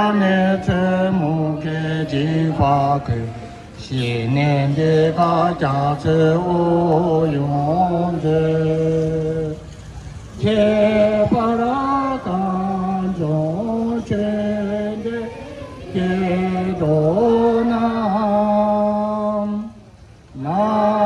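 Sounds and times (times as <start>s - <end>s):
voices chanting long notes: 0.0s - 9.6s, 10.3s - 21.0s.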